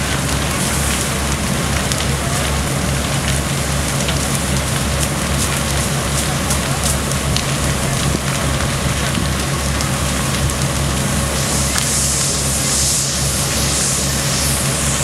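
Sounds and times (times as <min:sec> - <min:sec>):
fire crackling and popping: 0:00.0 - 0:15.0
steady low hum: 0:00.0 - 0:15.0.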